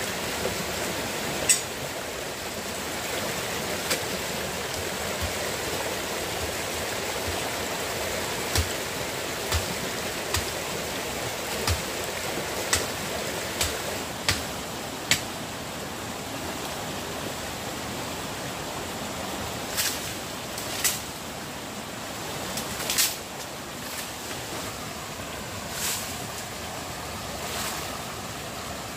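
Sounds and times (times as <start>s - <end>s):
rocky stream rushing: 0.0s - 28.9s.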